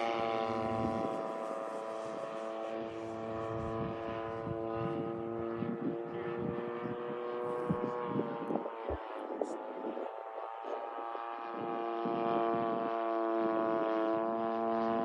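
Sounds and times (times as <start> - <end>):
model plane propeller drone: 0.0 - 15.0
wind rumble on microphone: 0.0 - 15.0.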